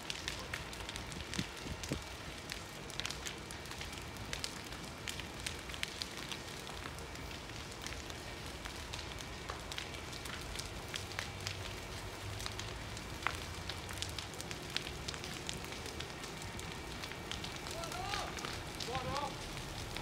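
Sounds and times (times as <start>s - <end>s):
fire crackling and popping: 0.0s - 20.0s
fire rushing noise: 0.1s - 20.0s.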